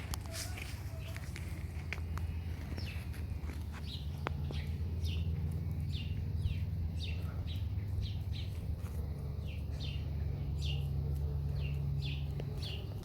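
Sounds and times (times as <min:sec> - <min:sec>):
low hum: 0:00.0 - 0:13.0
bird chirping: 0:02.3 - 0:13.0.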